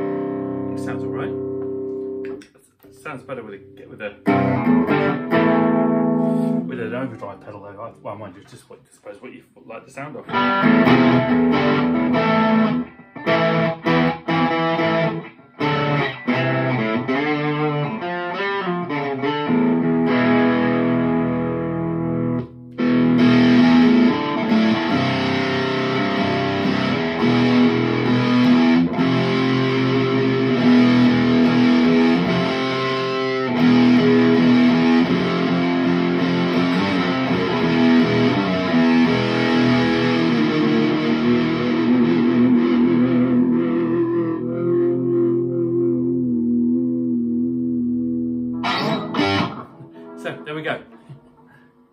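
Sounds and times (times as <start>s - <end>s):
distorted electric guitar: 0.0s - 7.4s, 10.3s - 51.8s.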